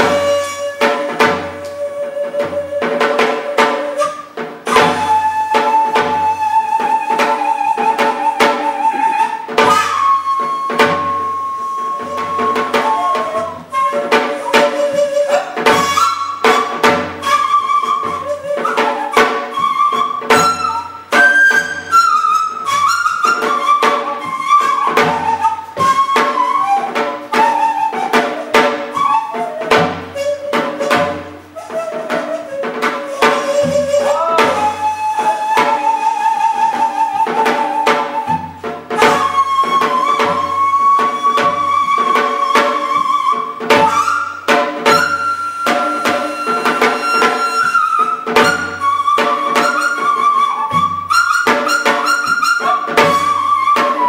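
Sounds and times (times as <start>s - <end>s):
bamboo flute melody: 0.0s - 54.0s
tabla strokes: 0.0s - 54.0s.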